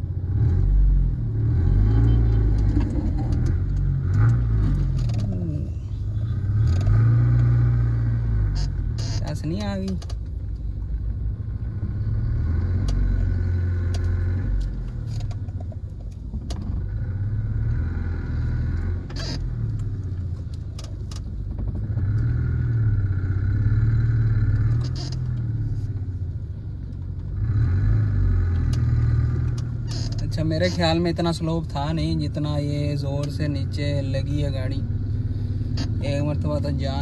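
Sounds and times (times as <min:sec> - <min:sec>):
car engine revving under load: 0:00.0 - 0:37.0.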